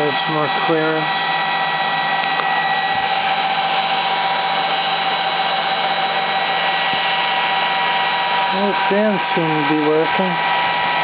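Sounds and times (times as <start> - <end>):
computer fans whirring: 0.0 - 11.0
high steady whines: 0.0 - 11.0.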